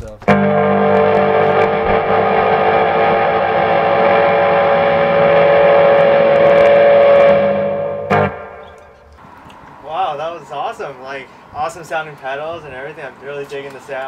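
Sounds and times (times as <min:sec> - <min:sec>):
electric guitar ringing feedback tones: 0:00.0 - 0:14.0.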